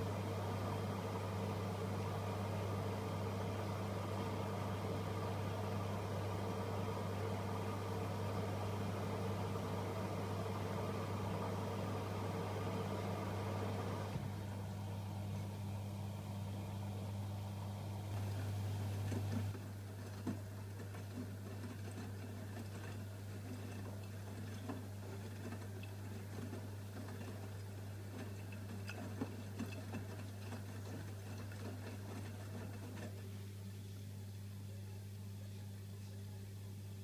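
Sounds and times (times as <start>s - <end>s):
washing machine drum motor: 0.0s - 33.4s
steady low hum: 0.0s - 37.0s.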